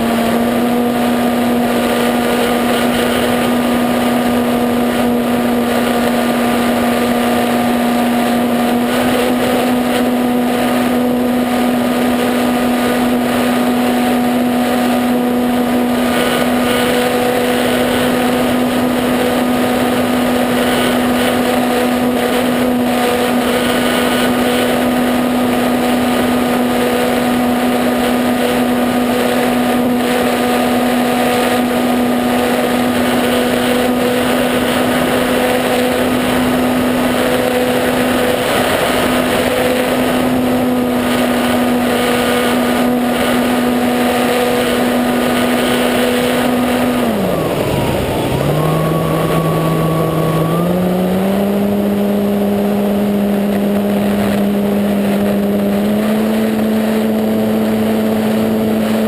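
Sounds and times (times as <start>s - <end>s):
electric motor and propeller: 0.0s - 59.0s
wind rushing over microphone: 0.0s - 59.0s.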